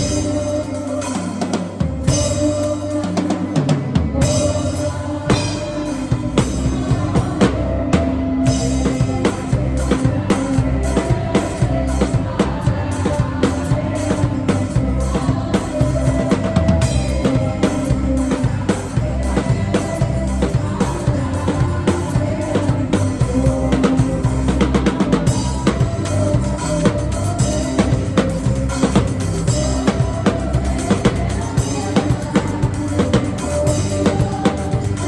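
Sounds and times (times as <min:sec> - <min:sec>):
drum kit groove: 0:00.0 - 0:35.0
worship band music: 0:00.0 - 0:35.0.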